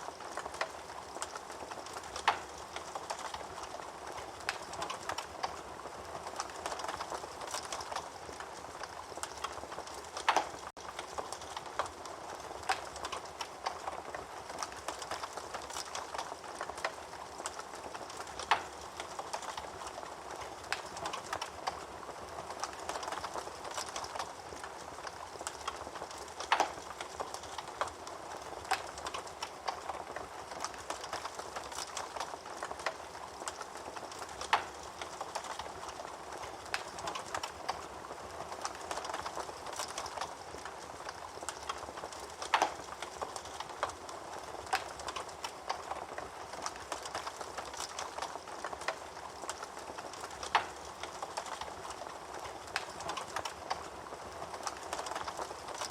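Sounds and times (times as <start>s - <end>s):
wood fire crackling: 0.0s - 55.9s
fire popping: 0.1s - 55.9s.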